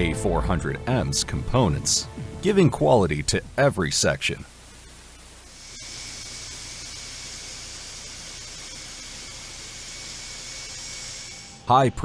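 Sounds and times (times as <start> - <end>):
faint high whine: 0.0 - 12.0
steady background hiss: 0.0 - 12.0.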